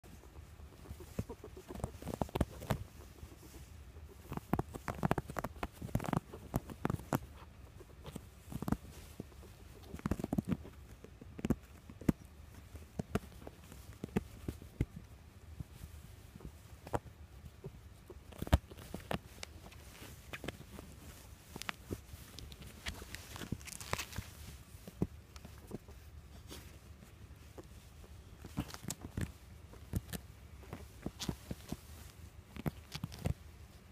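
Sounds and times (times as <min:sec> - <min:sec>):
ferrets scrabbling on fabric: 0:00.0 - 0:33.9.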